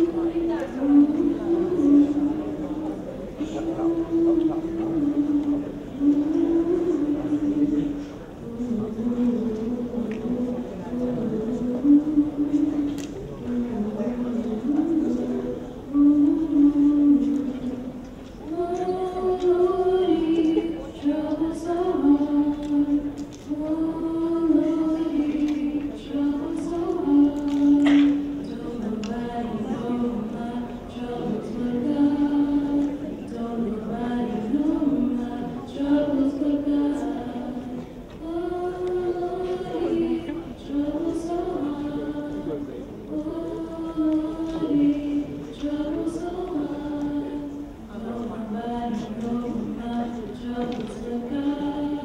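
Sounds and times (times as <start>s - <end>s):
voices singing long held notes: 3.6s - 52.0s.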